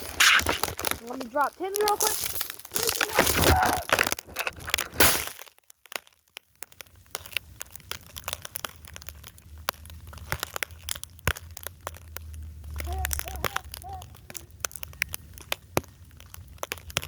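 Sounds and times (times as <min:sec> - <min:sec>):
crackling and crunching clicks: 0:00.0 - 0:17.0.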